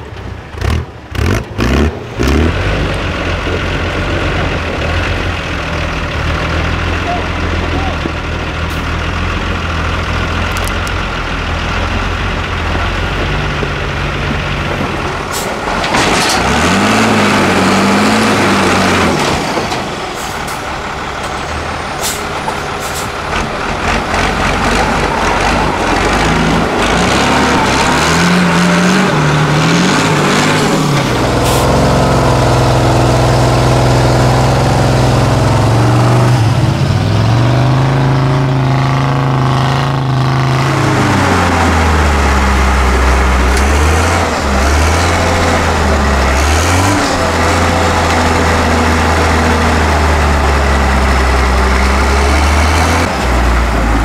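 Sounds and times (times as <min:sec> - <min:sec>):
off-road truck engines revving: 0:00.0 - 0:54.0.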